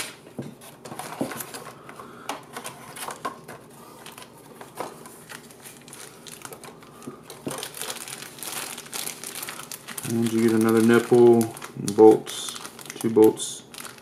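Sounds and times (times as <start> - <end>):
packaging rustling: 2.5 - 14.0.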